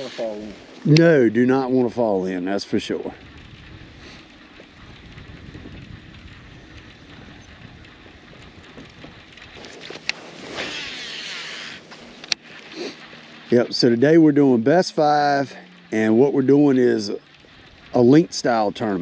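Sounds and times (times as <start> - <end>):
low steady rumble: 0.0 - 19.0
reel spool whirring: 0.0 - 19.0
fishing reel click: 2.3 - 19.0.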